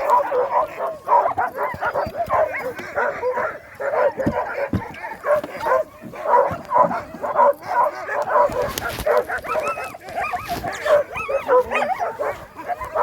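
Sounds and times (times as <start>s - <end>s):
dogs barking and yipping: 0.0s - 13.0s.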